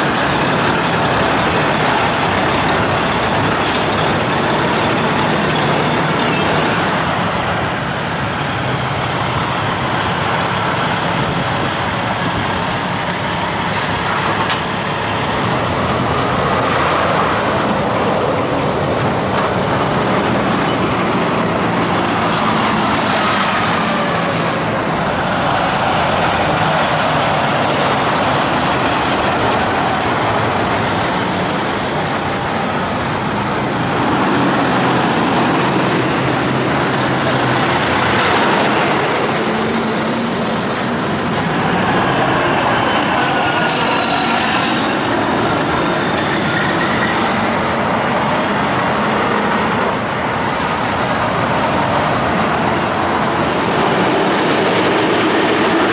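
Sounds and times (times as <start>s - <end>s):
trucks driving past on highway: 0.0s - 55.9s.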